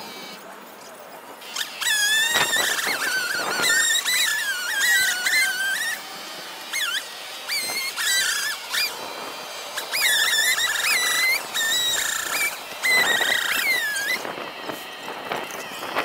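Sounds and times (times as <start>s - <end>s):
sped-up chainsaw whine: 0.0s - 16.0s.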